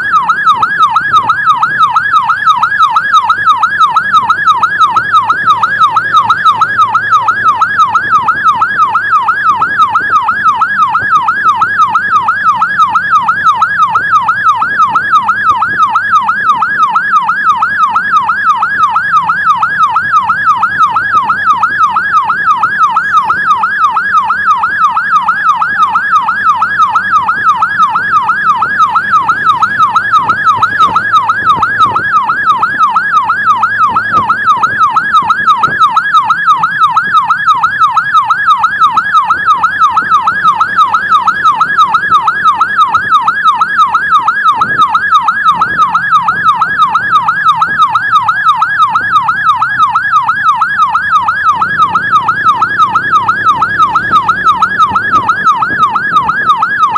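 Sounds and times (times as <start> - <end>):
electronic siren yelping: 0.0 - 56.9.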